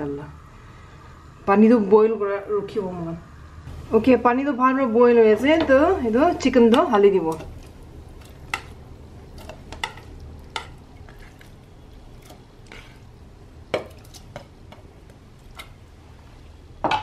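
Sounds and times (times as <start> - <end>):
water boiling rumble: 0.0 - 16.8.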